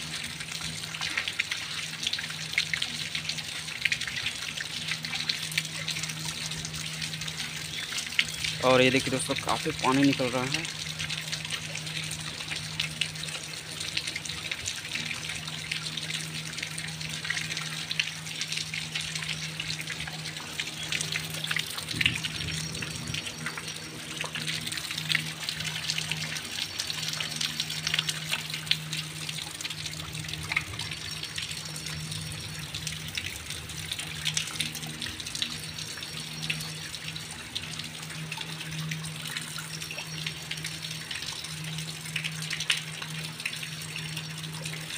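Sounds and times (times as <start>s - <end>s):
heavy rain splashing on flooded ground: 0.0s - 44.9s
steady low hum: 0.0s - 44.9s.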